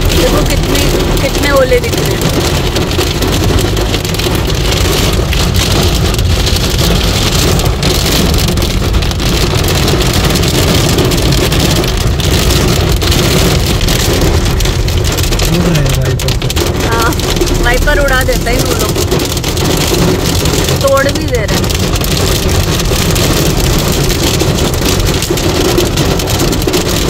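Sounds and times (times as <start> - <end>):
heavy rain drumming on car roof: 0.0 - 27.0
moving car rush: 0.0 - 27.0.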